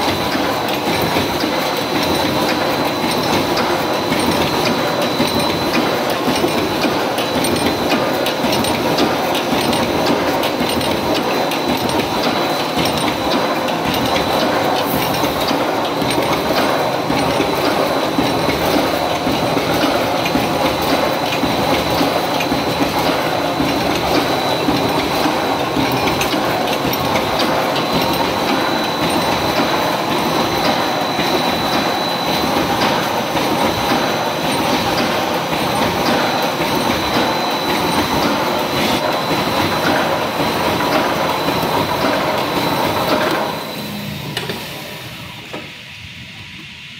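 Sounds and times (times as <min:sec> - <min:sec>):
machine rapid mechanical clatter: 0:00.0 - 0:44.8
thin high machine whine: 0:00.0 - 0:46.9.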